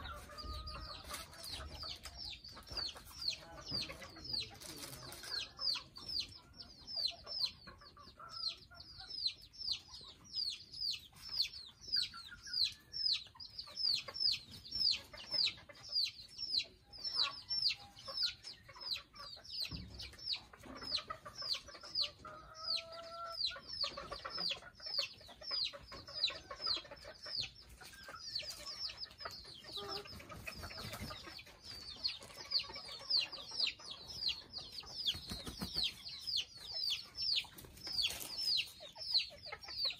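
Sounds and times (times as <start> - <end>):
chickens chirping: 0.0 - 39.9
chickens clucking: 0.0 - 39.9.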